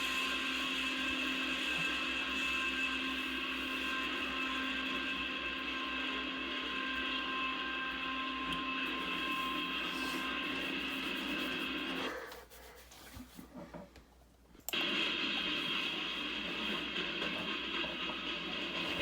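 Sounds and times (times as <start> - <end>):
train passing: 0.0 - 12.1, 14.8 - 19.0.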